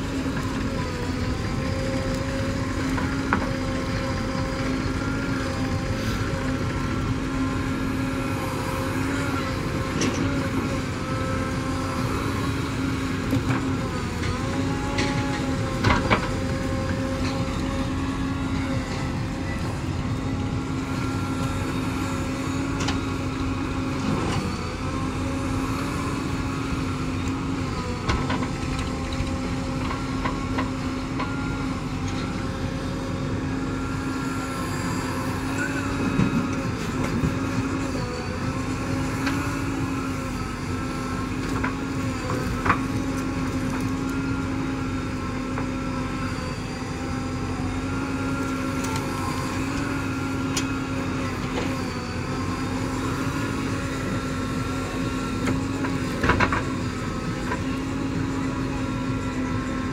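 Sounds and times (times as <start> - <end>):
diesel engine under load: 0.0 - 59.9.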